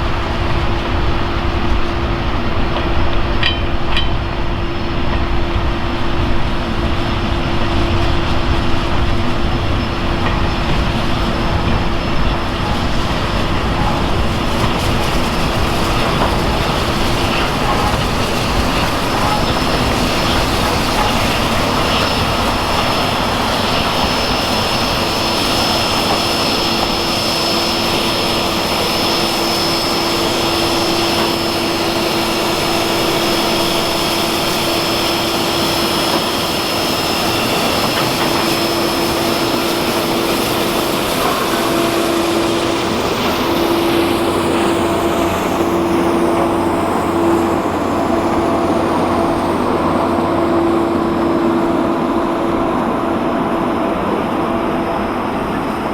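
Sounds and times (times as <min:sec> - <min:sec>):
steam train rolling along track: 0:00.0 - 0:55.9.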